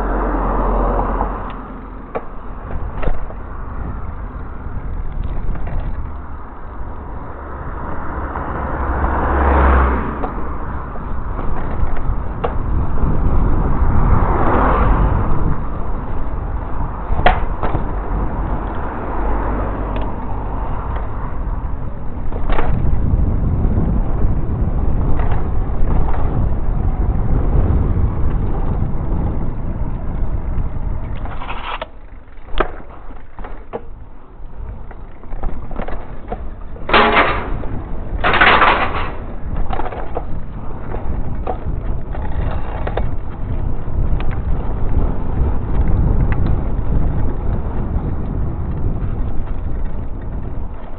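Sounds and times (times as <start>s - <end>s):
bike tyres rumbling on paving: 0.0s - 50.9s
wind buffeting microphone: 0.0s - 50.9s.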